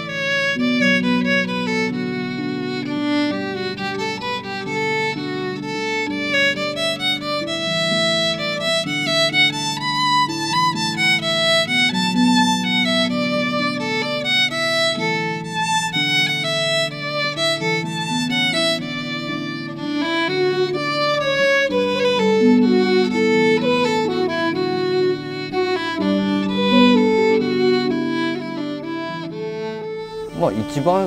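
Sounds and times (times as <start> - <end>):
instrumental music: 0.0 - 31.0.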